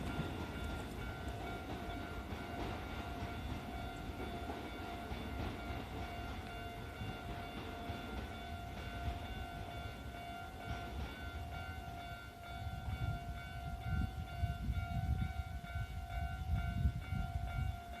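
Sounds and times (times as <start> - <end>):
level crossing alarm ringing: 0.0 - 18.0
train rumbling: 0.0 - 18.0.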